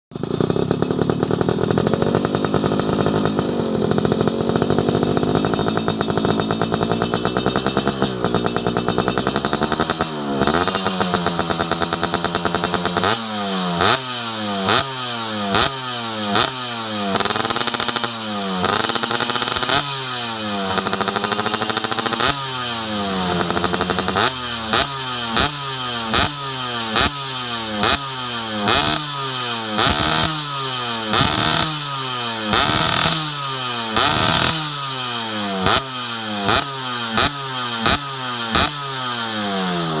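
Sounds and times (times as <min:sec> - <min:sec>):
motorcycle engine throttle blips: 0:00.2 - 0:40.0.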